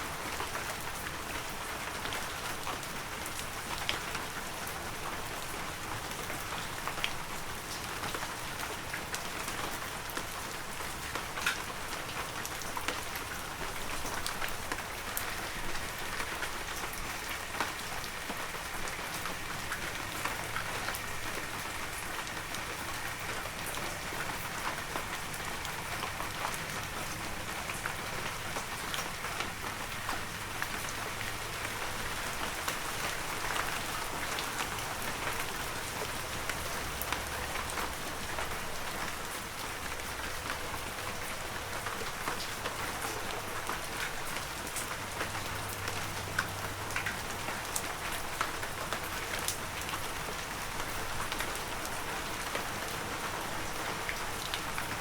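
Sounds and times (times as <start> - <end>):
heavy rain on forest: 0.0 - 55.0.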